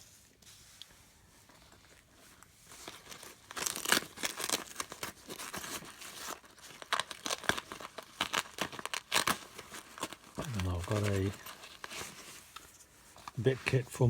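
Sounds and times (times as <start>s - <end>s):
plastic packaging crinkling: 1.6s - 13.5s.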